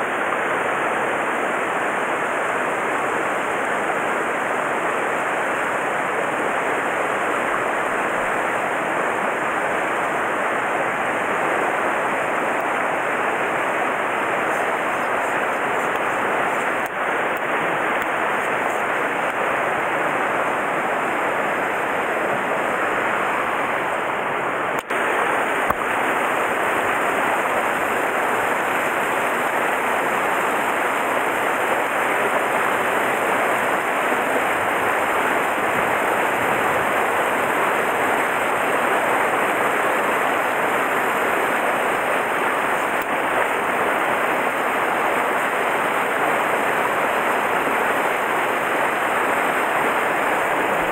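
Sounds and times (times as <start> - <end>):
mountain stream rushing: 0.0 - 50.9.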